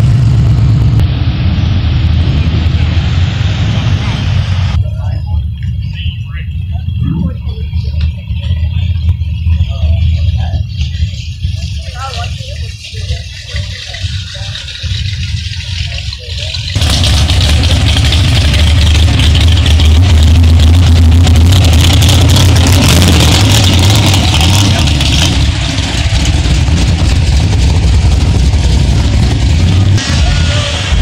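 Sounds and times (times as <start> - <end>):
pickup truck engine and exhaust: 0.0 - 31.0.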